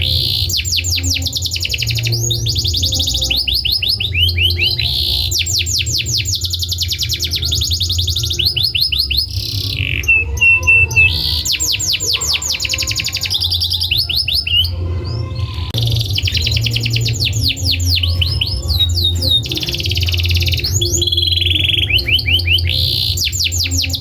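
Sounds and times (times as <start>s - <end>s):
canary singing trills: 0.0s - 24.0s
steady low hum: 0.0s - 24.0s.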